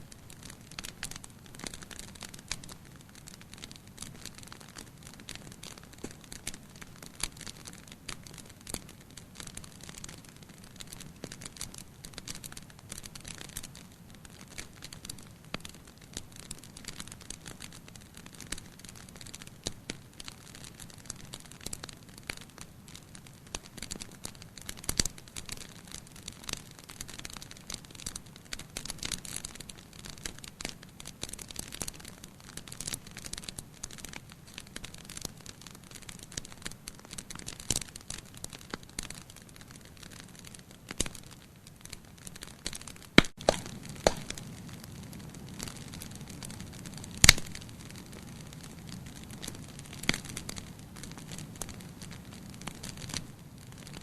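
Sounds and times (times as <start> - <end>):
fire popping: 0.0 - 54.0
wood fire crackling: 0.0 - 54.0.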